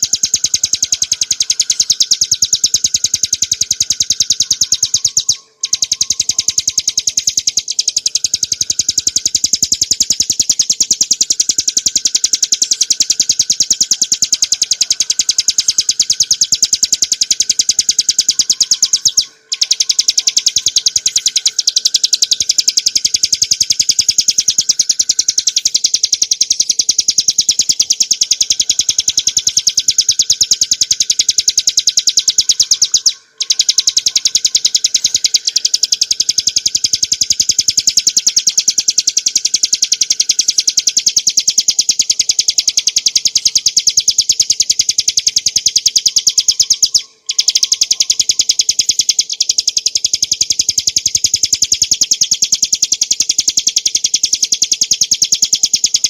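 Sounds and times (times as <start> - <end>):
bird singing rapid high notes: 0.0 - 56.0.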